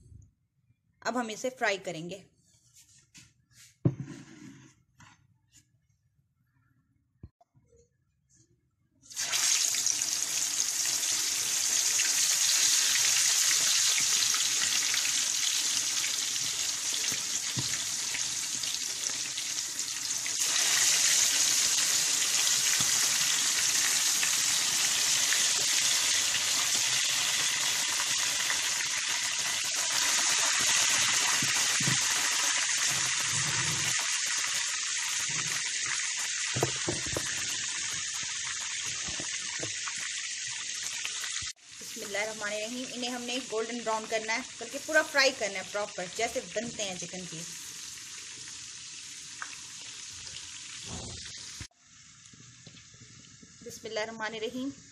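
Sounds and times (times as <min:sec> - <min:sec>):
chicken deep-frying in oil: 0:09.1 - 0:54.9.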